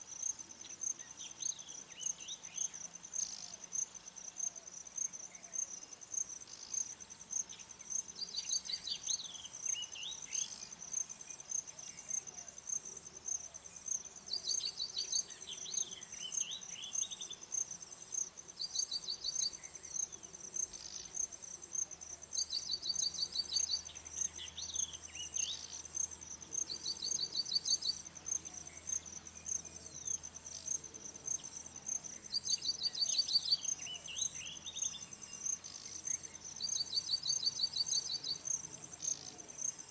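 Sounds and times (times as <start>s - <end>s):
bird song with ticking trill: 0.0s - 39.9s
cricket chirping: 0.0s - 39.9s.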